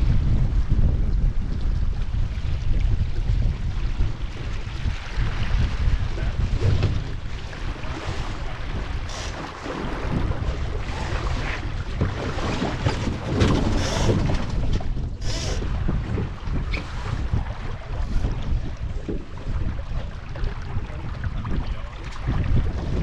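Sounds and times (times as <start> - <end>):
water rushing along hull: 0.0 - 23.0
wind buffeting microphone: 0.0 - 23.0.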